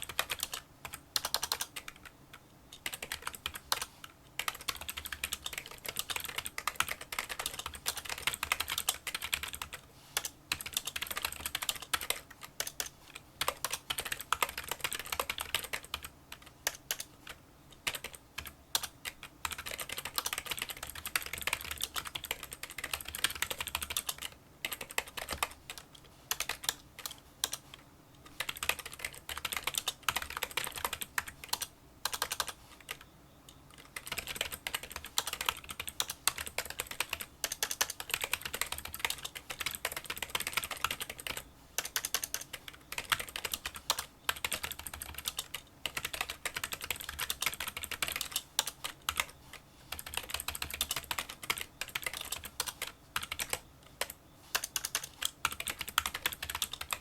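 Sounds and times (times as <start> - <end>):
fast typing on keyboard: 0.0 - 2.1, 2.7 - 27.7, 28.3 - 33.0, 33.7 - 57.0.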